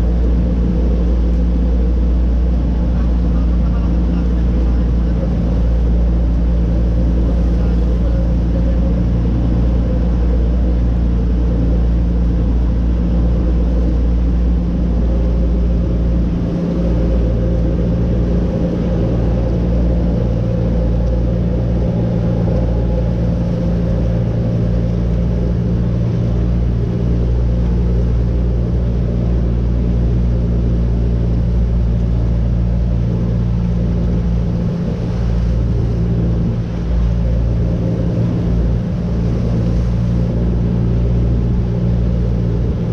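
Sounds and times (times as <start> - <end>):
motorboat engine running: 0.0 - 42.9.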